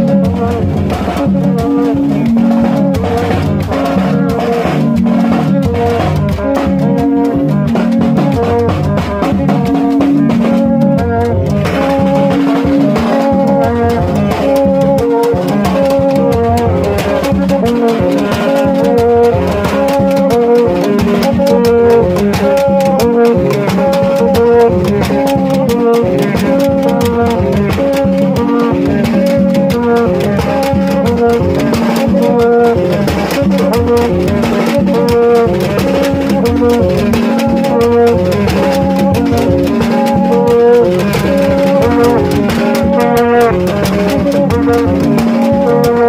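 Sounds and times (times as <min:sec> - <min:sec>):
drums: 0:00.0 - 0:46.0
rattling percussion: 0:00.0 - 0:46.0
tube trumpets and horns: 0:00.0 - 0:46.0.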